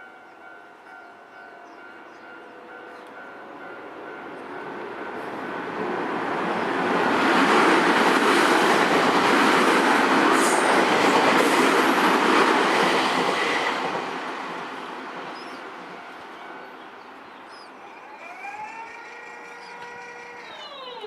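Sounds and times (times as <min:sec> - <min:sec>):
electric train rushing past: 0:03.6 - 0:20.5.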